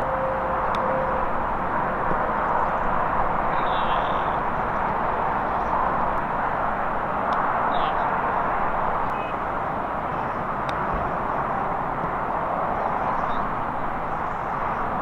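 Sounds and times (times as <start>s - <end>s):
outdoor background roar: 0.0s - 15.0s.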